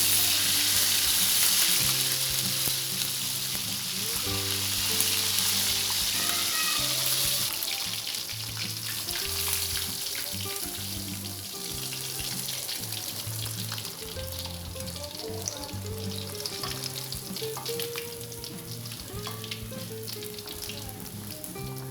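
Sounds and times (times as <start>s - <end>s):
fish sizzling in hot oil: 0.0s - 21.9s.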